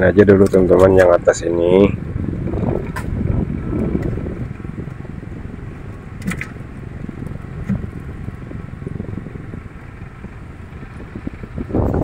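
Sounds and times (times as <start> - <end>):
fan airflow rumble: 0.0 - 12.0.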